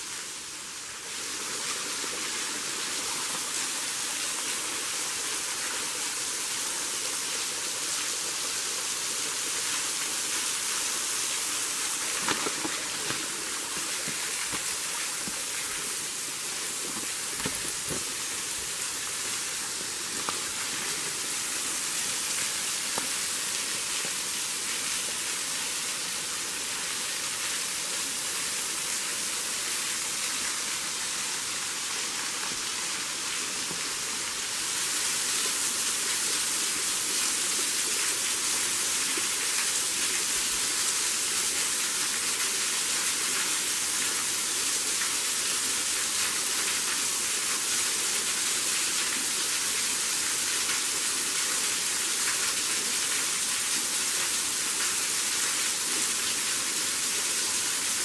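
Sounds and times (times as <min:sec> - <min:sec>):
waterfall splashing onto rocks: 0:00.1 - 0:58.0.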